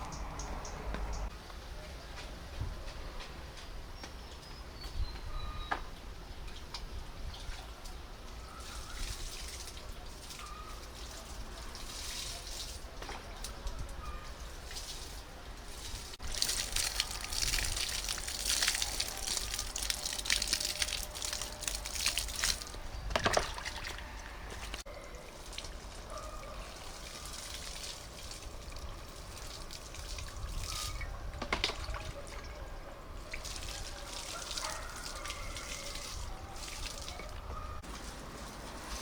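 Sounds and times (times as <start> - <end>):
water drips: 0.0 - 1.3, 6.5 - 39.0
water trickling and splashing: 6.0 - 39.0.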